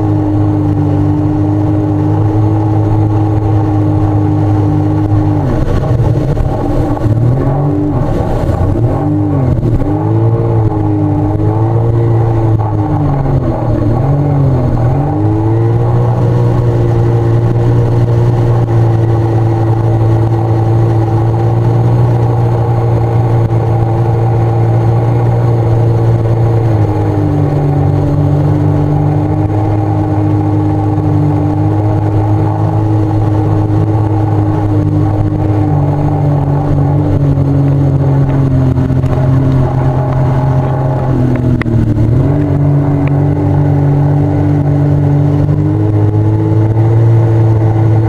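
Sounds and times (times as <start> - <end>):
personal watercraft engine: 0.0 - 48.0.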